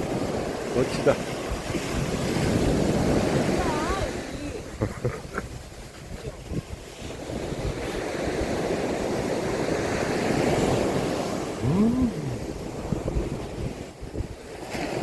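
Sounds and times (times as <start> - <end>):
sea waves breaking on beach: 0.0 - 15.0
wind on microphone: 0.0 - 15.0.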